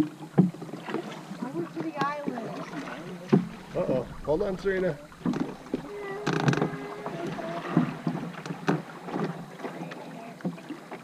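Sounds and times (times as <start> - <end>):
paddle strokes splashing water: 0.0 - 11.0
paddle knocking against canoe hull: 0.1 - 1.2, 1.8 - 10.8.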